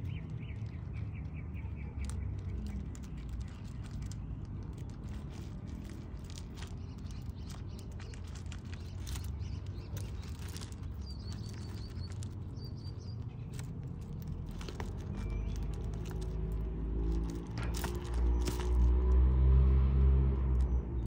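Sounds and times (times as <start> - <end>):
tortoises scuffling on gravel: 0.0 - 19.6.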